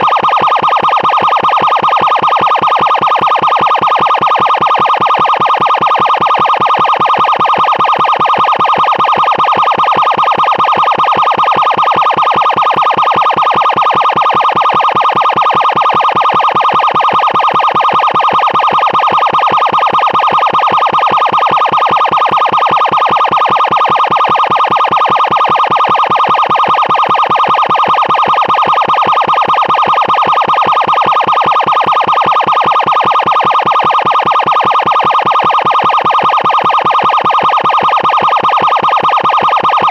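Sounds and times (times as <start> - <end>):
pulsing emergency siren: 0.0 - 39.9.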